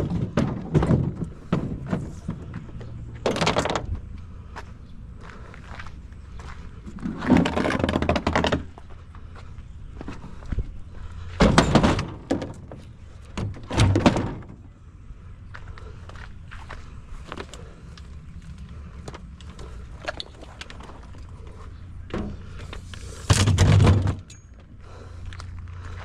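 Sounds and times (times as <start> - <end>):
scrap thunking and scraping: 0.0 - 4.6, 5.3 - 14.7, 15.6 - 26.0
low background hum: 0.0 - 26.0.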